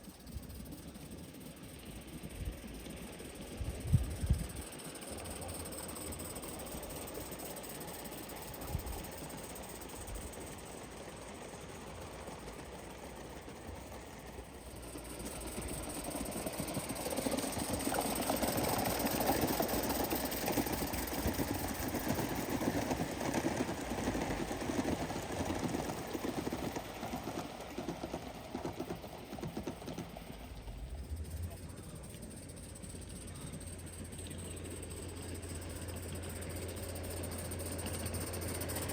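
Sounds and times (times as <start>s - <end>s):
model steam locomotive passing: 0.0s - 38.9s.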